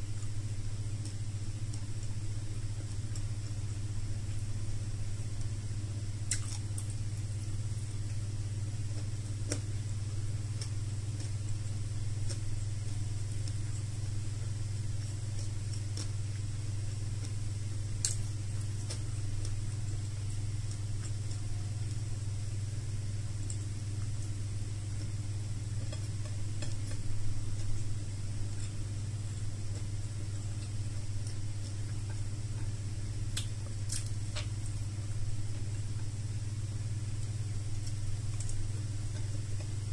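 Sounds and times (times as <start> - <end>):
person chewing and eating: 0.0 - 39.9
steady low hum: 0.0 - 39.9.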